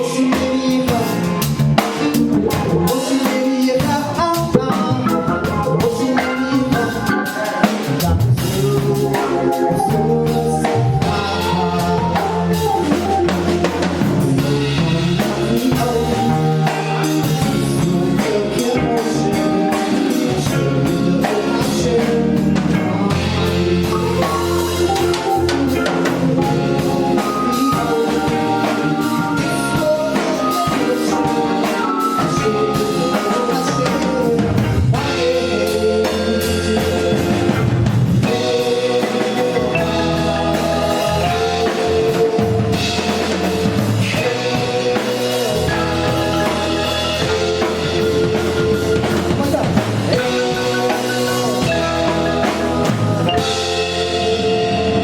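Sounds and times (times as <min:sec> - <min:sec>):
band playing music: 0:00.0 - 0:55.0
drum kit steady beat: 0:00.0 - 0:55.0.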